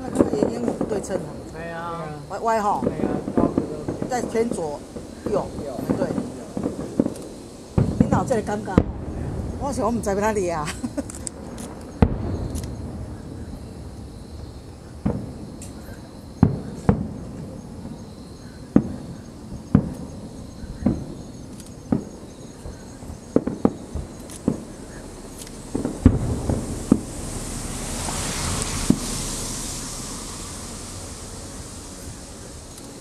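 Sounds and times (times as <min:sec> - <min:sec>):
fireworks booming: 0:00.0 - 0:33.0
insects chirping: 0:00.0 - 0:33.0.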